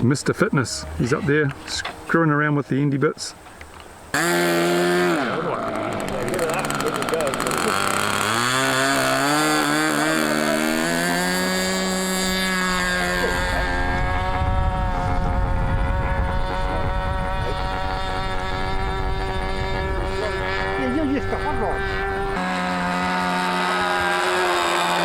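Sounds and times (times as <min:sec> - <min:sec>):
model airplane engine revving: 0:04.1 - 0:25.0.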